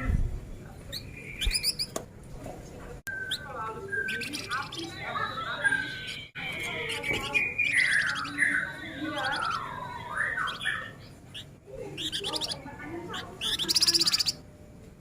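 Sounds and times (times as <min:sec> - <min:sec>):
songbird chattering song: 0:00.8 - 0:02.0, 0:03.1 - 0:14.4.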